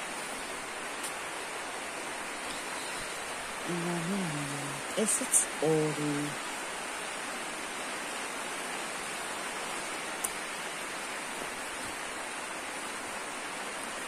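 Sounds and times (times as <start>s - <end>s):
steady rain-like hiss: 0.0s - 14.0s.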